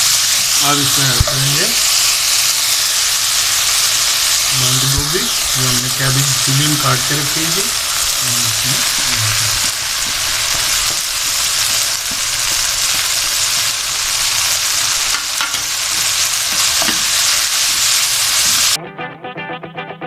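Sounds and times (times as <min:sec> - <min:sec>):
food sizzling in oil: 0:00.0 - 0:18.8.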